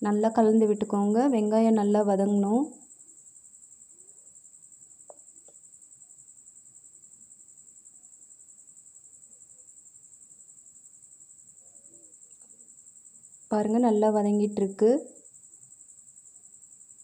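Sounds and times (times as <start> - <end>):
cricket trilling: 0.0 - 17.0.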